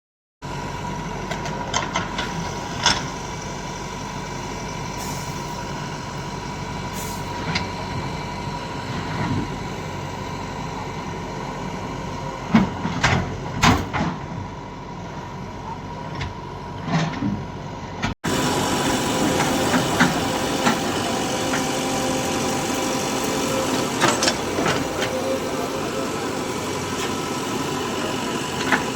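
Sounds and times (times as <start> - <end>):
diesel engine idling: 0.4 - 13.6, 14.2 - 28.9.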